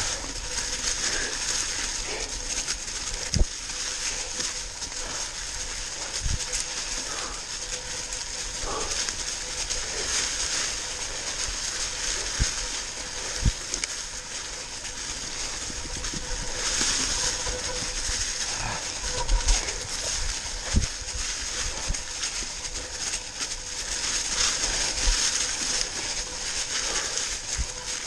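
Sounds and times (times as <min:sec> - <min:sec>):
bike tyres crunching dry leaves: 0:00.0 - 0:28.0.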